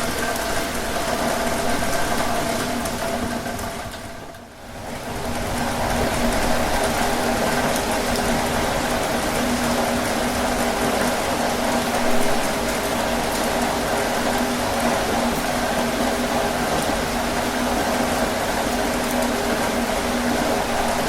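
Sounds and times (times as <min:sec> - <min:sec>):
heavy rain on a tin roof: 0:00.0 - 0:21.0.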